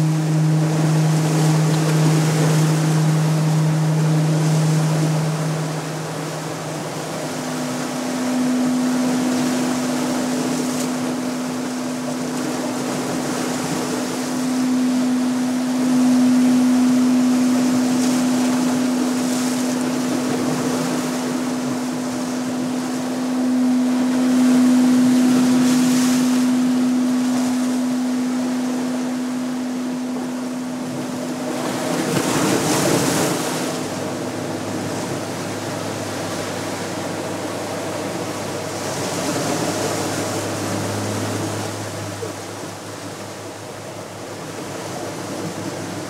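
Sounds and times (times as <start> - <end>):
sea waves breaking on rocks: 0.0 - 29.1, 30.8 - 46.0
held drone tone: 0.0 - 46.0.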